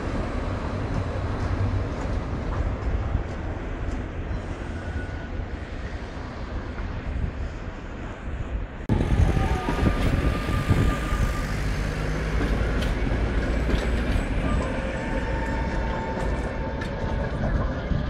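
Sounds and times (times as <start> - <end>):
tram wheels rumbling: 0.0 - 18.0.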